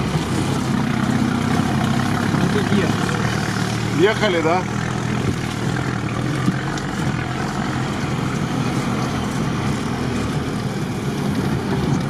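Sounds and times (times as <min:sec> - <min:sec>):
off-road vehicle engine running: 0:00.0 - 0:12.0
vehicle driving on dirt track: 0:00.0 - 0:12.0.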